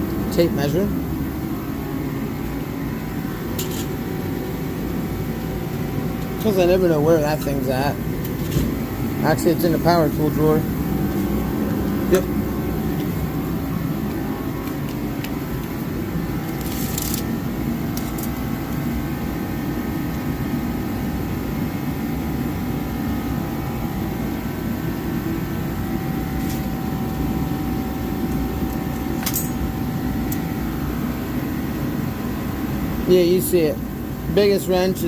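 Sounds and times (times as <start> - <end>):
space heater rumbling: 0.0 - 35.0.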